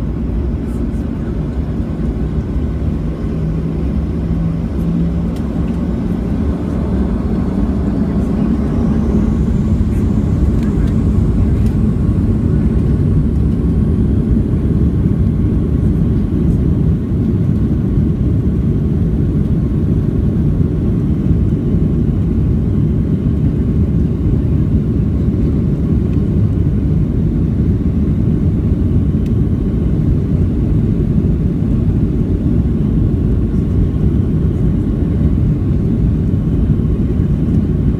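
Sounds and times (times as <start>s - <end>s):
aircraft cabin engine rumble: 0.0s - 37.9s.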